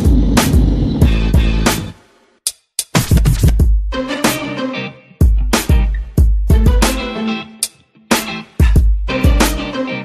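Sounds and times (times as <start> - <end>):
music with a heavy beat: 0.0 - 4.6, 5.2 - 9.9.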